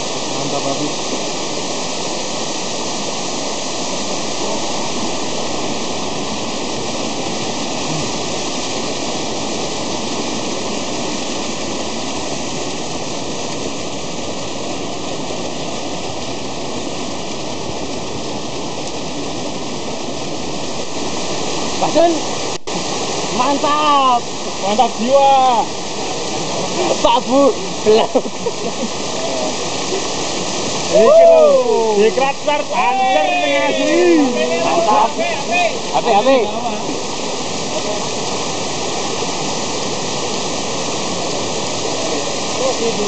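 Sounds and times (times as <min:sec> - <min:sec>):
stream rushing over boulders: 0:00.0 - 0:43.0.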